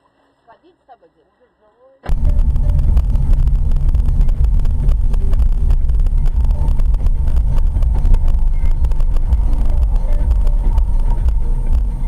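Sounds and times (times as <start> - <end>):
car low rumble: 2.1 - 12.0.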